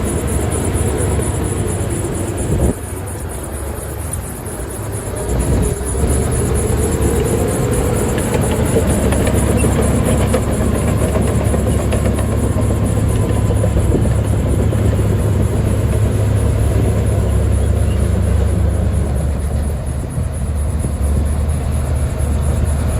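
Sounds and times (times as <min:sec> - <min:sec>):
heavy machinery diesel engine: 0:00.0 - 0:22.9.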